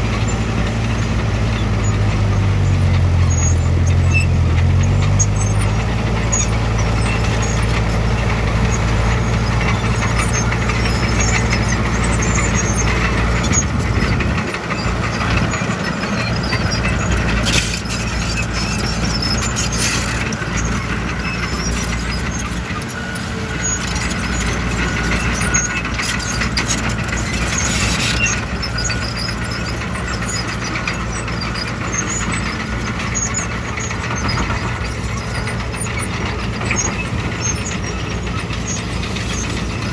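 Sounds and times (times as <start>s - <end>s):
diesel engine running: 0.0s - 39.9s
squeaks: 0.0s - 39.9s.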